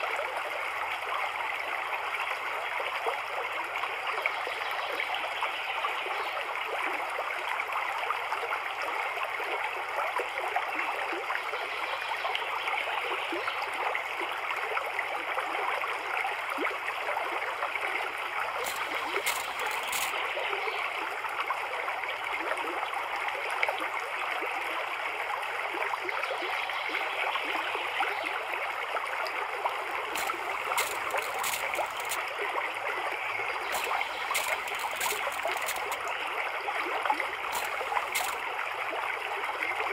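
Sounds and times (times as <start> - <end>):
trickling running water: 0.0 - 39.9.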